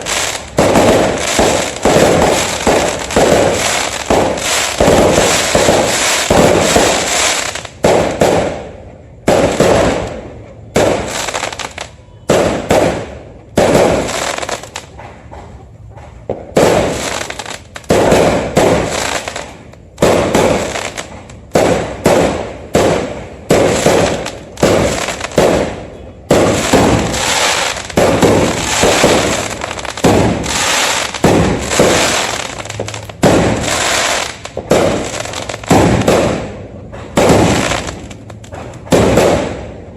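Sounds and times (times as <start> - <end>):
fireworks bursting with loud bangs: 0.0 - 39.9.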